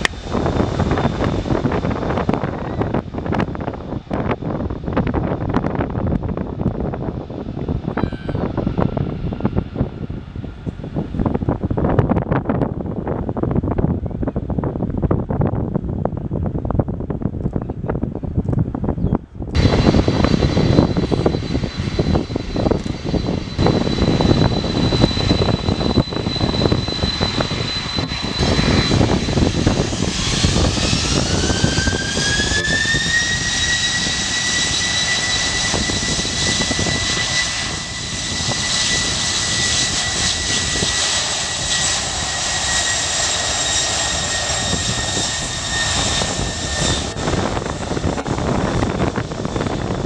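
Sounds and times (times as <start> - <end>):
jet engines roaring: 0.0 - 18.1, 18.8 - 50.0
jet engine high whine: 0.0 - 50.0.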